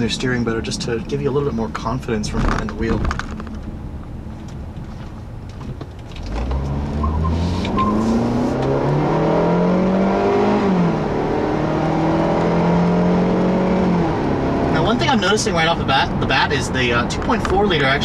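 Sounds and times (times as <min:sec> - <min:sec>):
car engine accelerating: 0:00.3 - 0:18.0.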